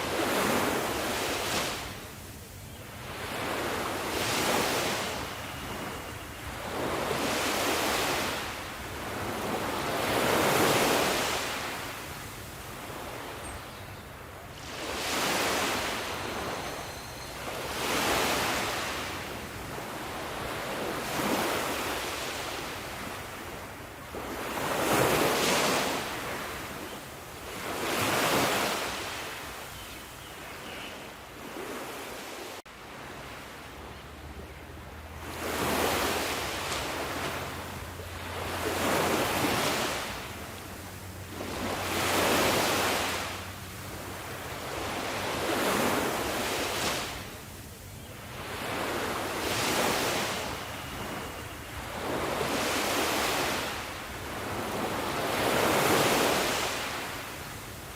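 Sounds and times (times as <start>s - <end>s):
sea waves rolling in: 0.0s - 57.9s.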